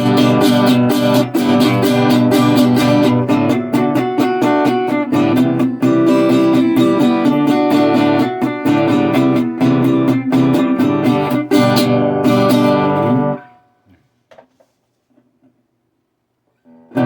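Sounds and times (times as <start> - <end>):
resonator guitar picked: 0.0 - 14.1.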